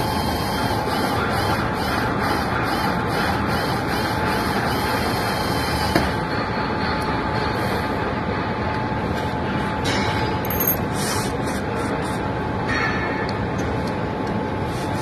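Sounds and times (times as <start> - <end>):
workshop background roar: 0.0 - 15.0.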